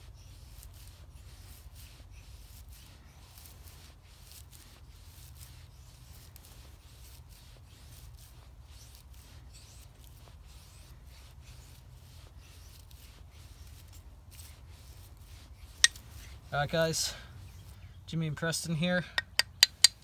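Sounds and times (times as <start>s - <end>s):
knife scraping wooden stick: 0.1s - 20.0s.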